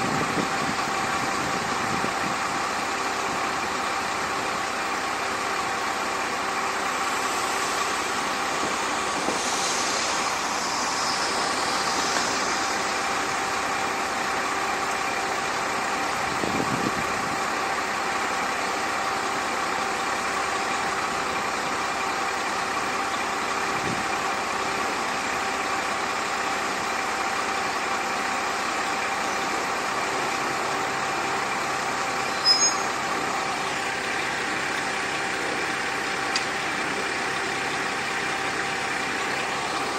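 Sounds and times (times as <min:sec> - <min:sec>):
diesel railcar engine idling: 0:00.0 - 0:39.9.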